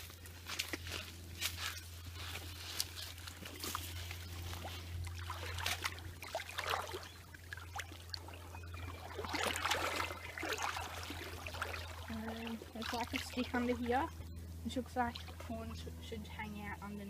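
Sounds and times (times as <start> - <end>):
creek water splashing: 0.0 - 15.8
steady low hum: 0.0 - 17.0.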